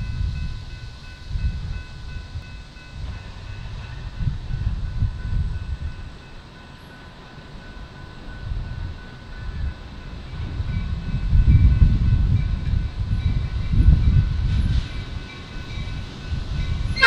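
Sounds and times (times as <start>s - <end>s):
diesel locomotive rumbling: 0.0s - 17.0s.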